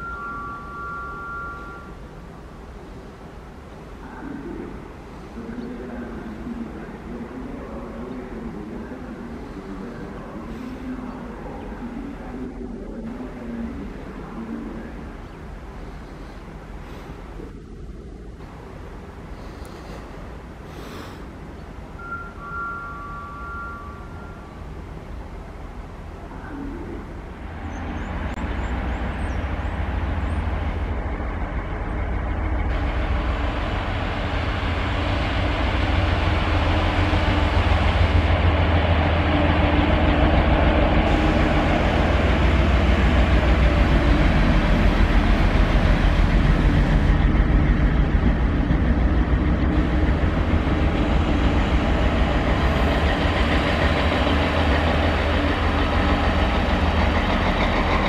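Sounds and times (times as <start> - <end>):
diesel locomotive engine rumbling: 0.0 - 58.0
train on rails: 0.0 - 58.0.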